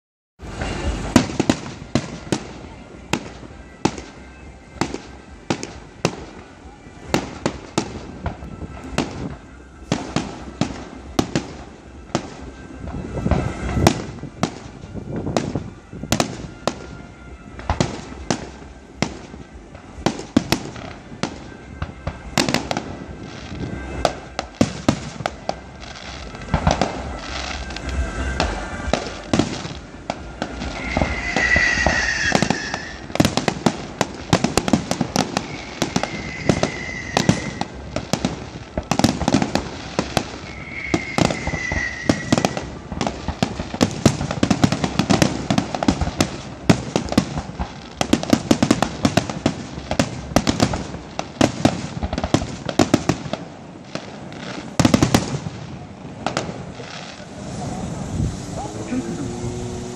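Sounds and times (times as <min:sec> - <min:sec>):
high falling firework whistle: 0:00.4 - 0:50.8
firecrackers banging and crackling: 0:00.4 - 0:59.9.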